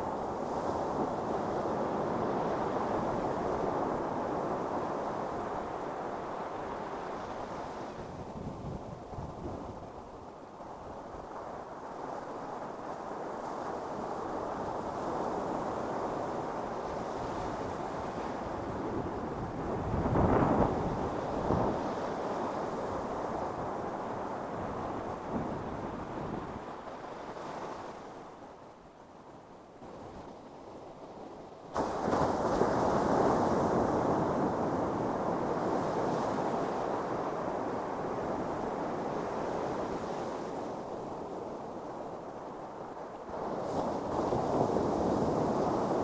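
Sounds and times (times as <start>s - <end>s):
ocean surf breaking on beach: 0.0s - 28.7s, 29.9s - 46.0s.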